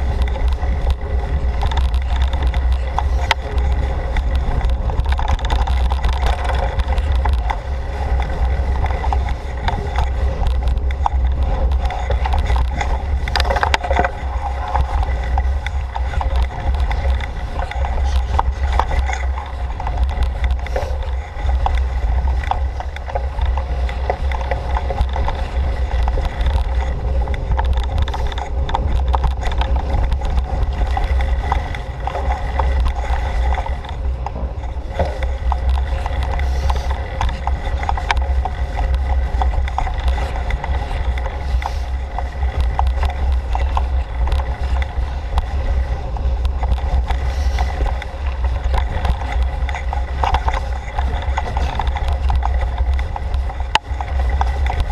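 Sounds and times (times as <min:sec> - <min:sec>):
bike tyres rolling over dirt: 0:00.0 - 0:54.9
low rumble of wind: 0:00.0 - 0:54.9.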